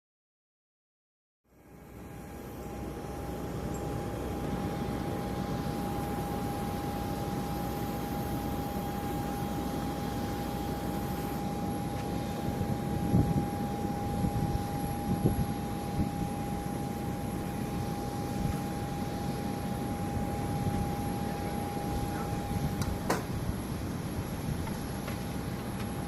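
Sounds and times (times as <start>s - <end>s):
distant jet engine running: 1.5s - 26.0s.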